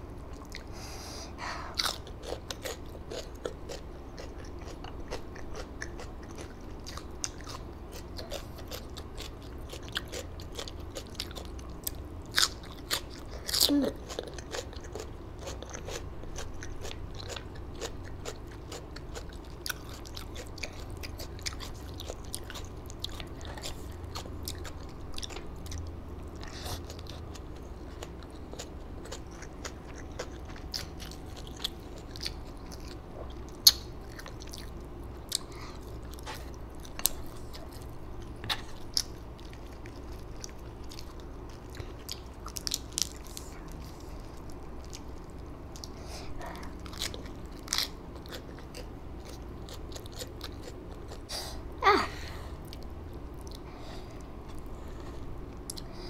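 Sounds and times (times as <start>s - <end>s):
low steady hum: 0.0s - 56.0s
person chewing crunchy food: 0.2s - 0.8s, 1.4s - 51.3s, 52.6s - 56.0s.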